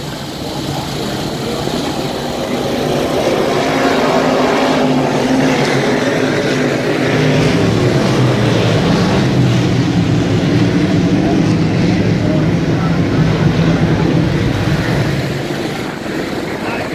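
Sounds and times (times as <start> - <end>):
race car engines droning: 0.0 - 16.9.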